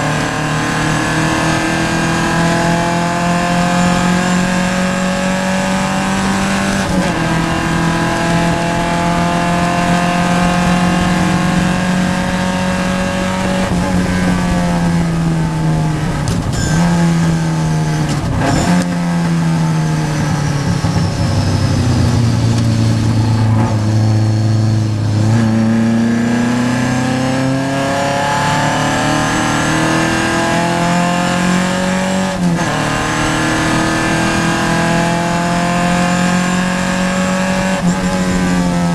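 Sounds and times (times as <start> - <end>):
race car engine: 0.0 - 38.9.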